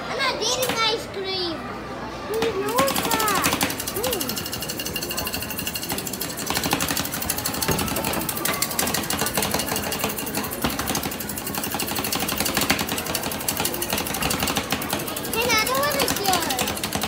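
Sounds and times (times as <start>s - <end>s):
metal spatulas tapping on steel: 2.8s - 17.0s.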